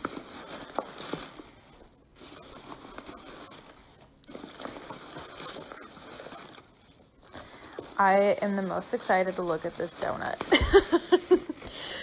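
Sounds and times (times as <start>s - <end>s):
packing peanuts and plastic rustling: 0.0s - 12.0s.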